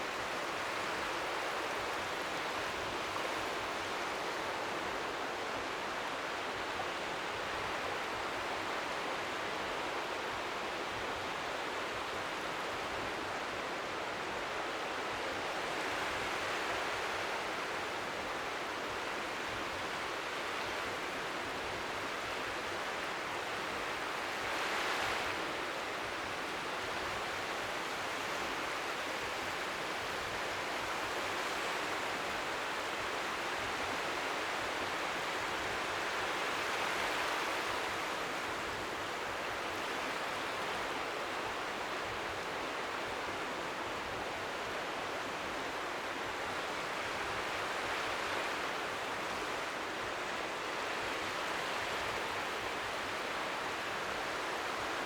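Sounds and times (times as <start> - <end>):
waves lapping on shore: 0.0 - 55.0.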